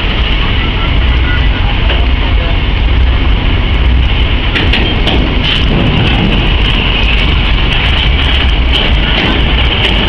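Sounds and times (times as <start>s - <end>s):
freight train rumbling: 0.0s - 10.0s.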